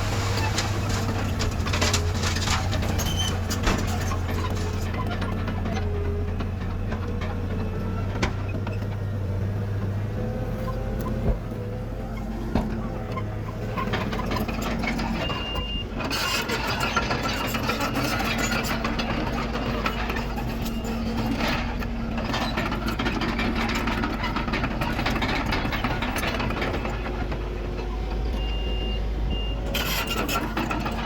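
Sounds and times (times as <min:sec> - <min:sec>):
diesel machinery engine drone: 0:00.0 - 0:31.0
machinery rattle and clatter: 0:00.0 - 0:31.0.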